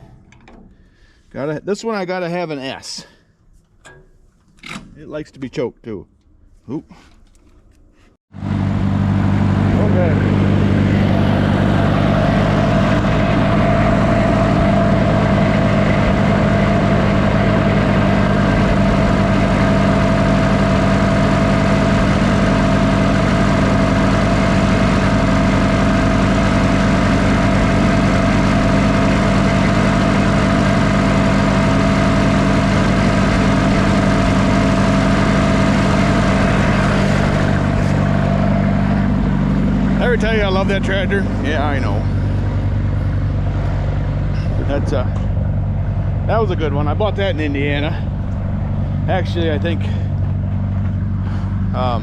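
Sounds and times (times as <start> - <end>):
tractor engine running: 7.2 - 52.0.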